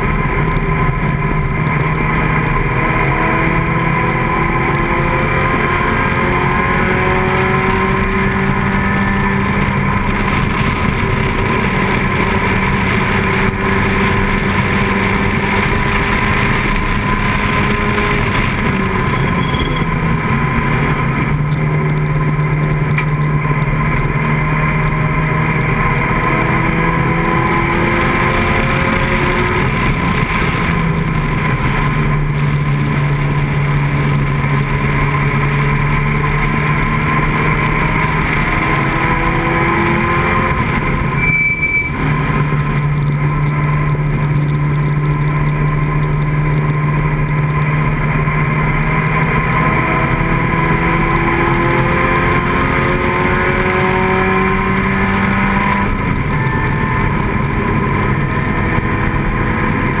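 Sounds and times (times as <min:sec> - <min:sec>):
racing car engine running hard: 0:00.0 - 1:00.0
heavy wind noise: 0:05.5 - 1:00.0.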